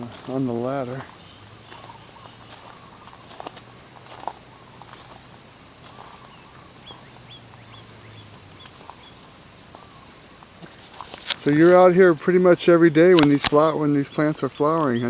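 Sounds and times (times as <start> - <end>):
bird chirping: 0.0 - 15.0
faint low hum: 0.0 - 15.0.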